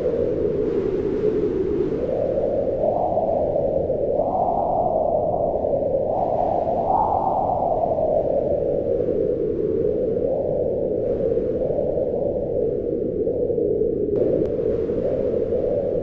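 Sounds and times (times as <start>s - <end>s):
howling wind in gusts: 0.0s - 16.0s.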